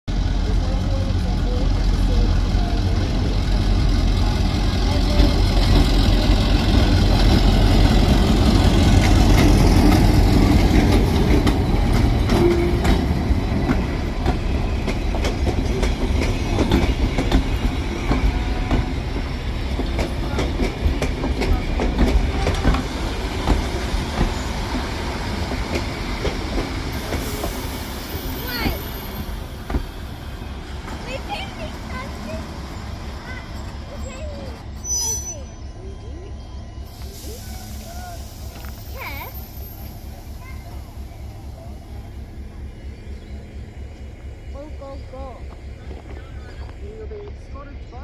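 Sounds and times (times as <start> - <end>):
train rumbling past: 0.1 - 48.0.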